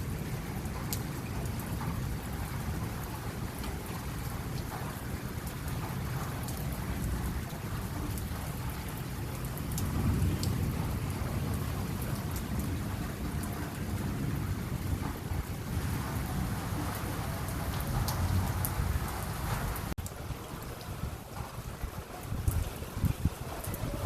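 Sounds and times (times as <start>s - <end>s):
raindrops ticking: 0.0s - 24.0s
steady rain: 0.0s - 24.0s
thunder rumble: 0.0s - 24.0s.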